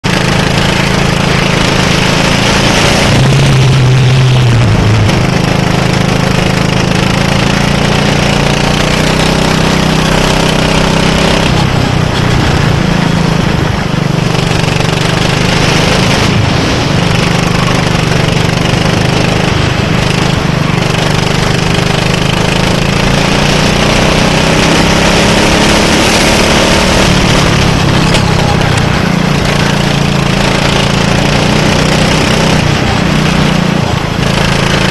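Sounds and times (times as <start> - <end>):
go-kart engine revving: 0.0 - 34.9.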